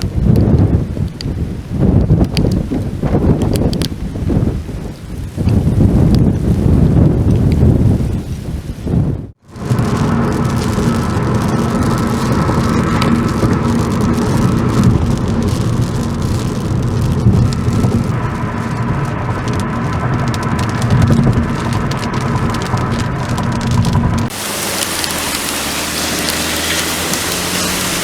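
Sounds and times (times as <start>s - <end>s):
heavy rain pattering: 0.0s - 28.0s
low rumble of thunder: 0.0s - 28.0s.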